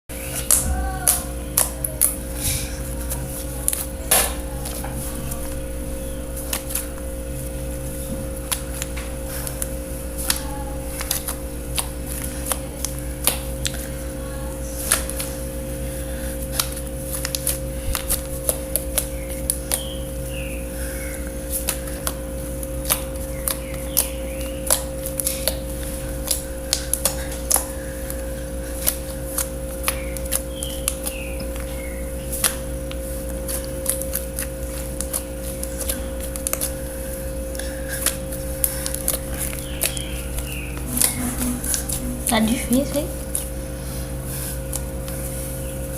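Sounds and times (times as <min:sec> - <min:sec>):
steady hum: 0:00.1 - 0:45.9.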